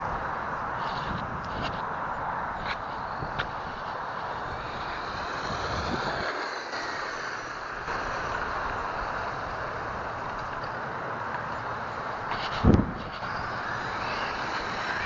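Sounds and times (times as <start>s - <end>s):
steady hiss: 0.2s - 15.0s.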